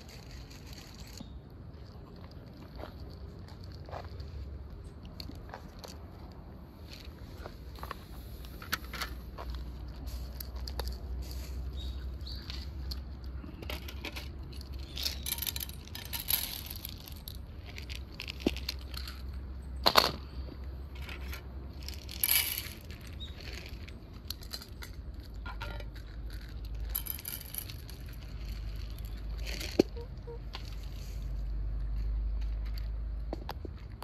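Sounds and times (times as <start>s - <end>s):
cats crunching dry kibble: 0.0s - 34.0s
low steady rumble: 0.0s - 34.0s.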